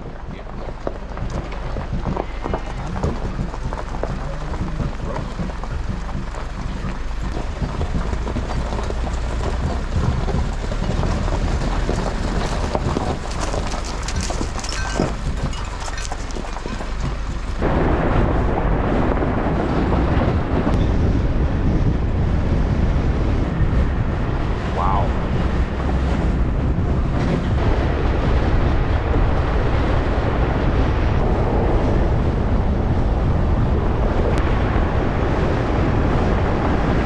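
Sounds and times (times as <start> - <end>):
low rushing rumble: 0.0 - 37.0
wind buffeting microphone: 0.0 - 37.0.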